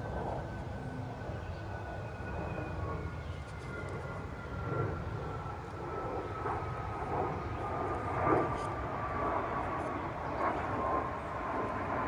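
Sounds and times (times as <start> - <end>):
distant aircraft drone: 0.0 - 12.0.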